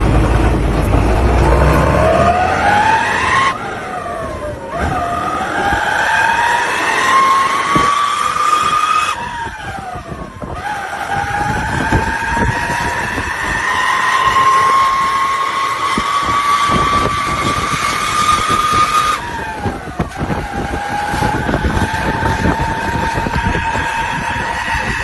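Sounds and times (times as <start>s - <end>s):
bus accelerating with rising whine: 0.0s - 25.0s.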